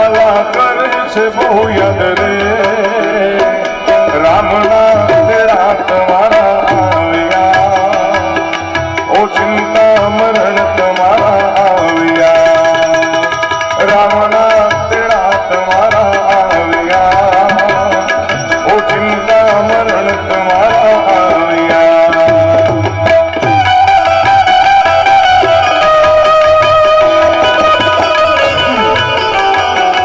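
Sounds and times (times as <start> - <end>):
harmonium melody: 0.0 - 30.0
tabla drum strokes: 0.0 - 30.0.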